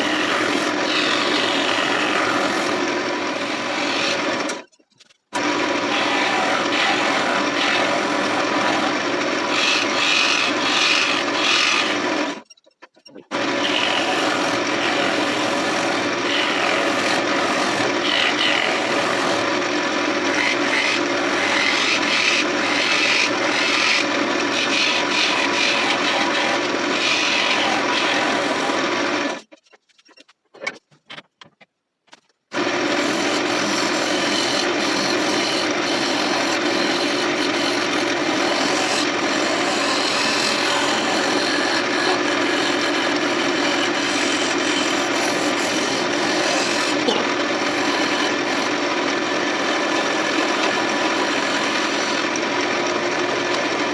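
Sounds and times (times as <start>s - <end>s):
wood lathe turning tool scraping: 0.0s - 29.6s, 32.5s - 53.9s.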